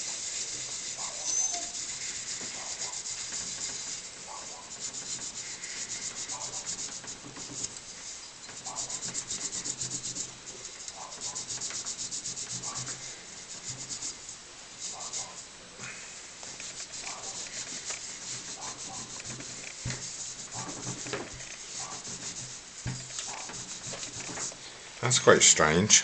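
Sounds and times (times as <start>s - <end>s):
hand scrubbing metal lamp: 0.0s - 15.6s, 16.4s - 24.6s.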